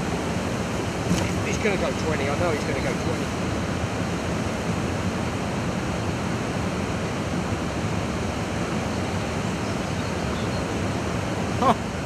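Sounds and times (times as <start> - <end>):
water rushing through weir: 0.0 - 12.0.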